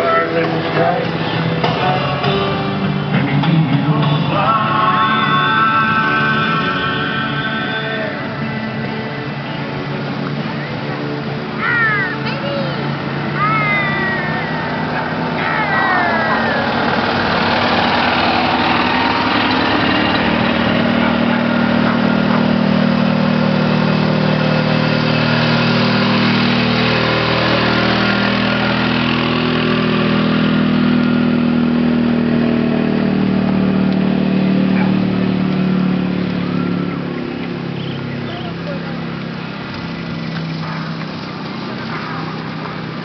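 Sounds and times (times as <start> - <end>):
small gasoline engines running: 0.0 - 43.0.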